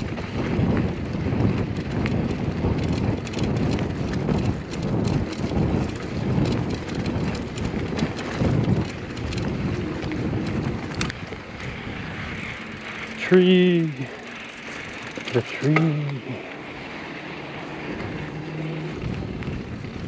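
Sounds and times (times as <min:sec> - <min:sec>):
bike clicks: 0:00.0 - 0:20.0
wind buffeting microphone: 0:00.0 - 0:20.0.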